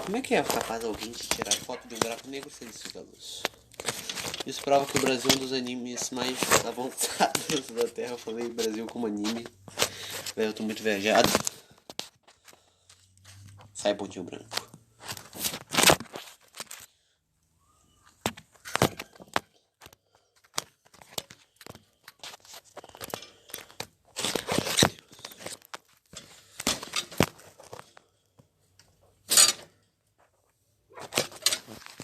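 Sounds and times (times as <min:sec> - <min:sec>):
cardboard and paper rustling: 0:00.0 - 0:13.8, 0:14.4 - 0:16.9, 0:18.2 - 0:28.1, 0:31.0 - 0:32.0.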